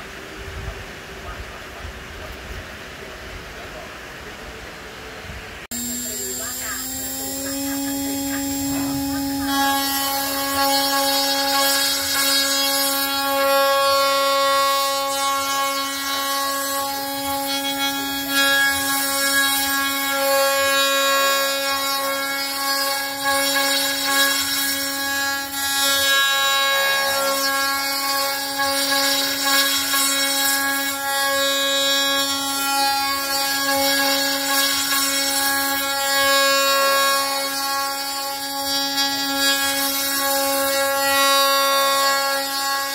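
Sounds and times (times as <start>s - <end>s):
electric motor whining: 5.7s - 42.9s
rasp of wood being milled: 5.8s - 42.9s.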